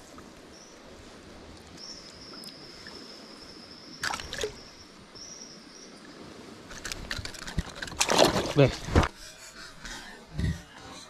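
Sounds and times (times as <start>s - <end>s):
river water splashing: 0.0s - 10.3s.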